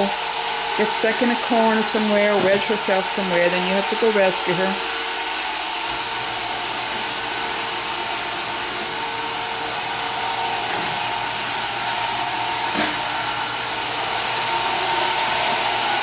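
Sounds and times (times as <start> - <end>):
robot vacuum motor hum: 0.0 - 16.0.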